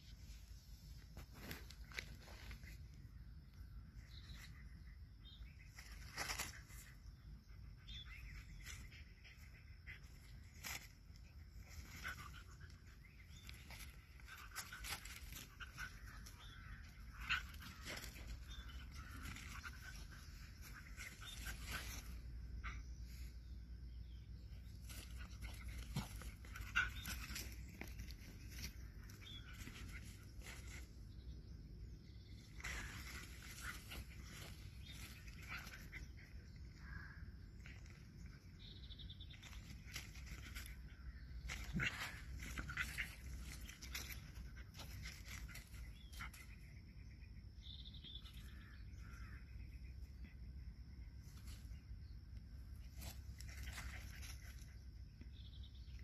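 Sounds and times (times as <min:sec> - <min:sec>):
dogs rustling in dry weeds: 0:00.0 - 0:03.1, 0:04.0 - 0:46.7, 0:51.2 - 0:56.0
bird chirp: 0:01.4 - 0:56.0.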